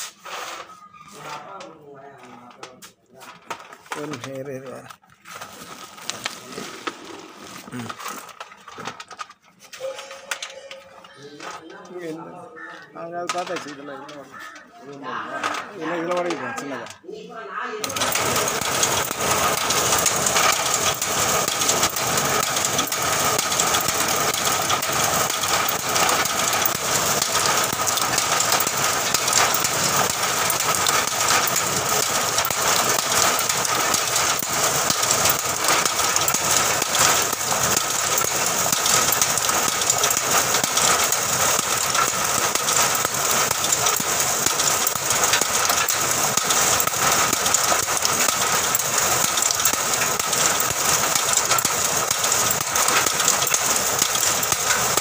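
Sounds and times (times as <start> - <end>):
nut shelling machine rattling: 3.3 - 9.6, 13.0 - 17.0, 17.8 - 55.0.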